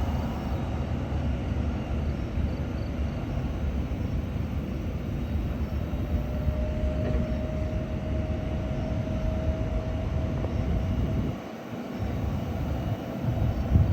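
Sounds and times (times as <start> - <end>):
airplane engines rumbling: 0.0 - 13.9
faint engine whine: 0.0 - 13.9.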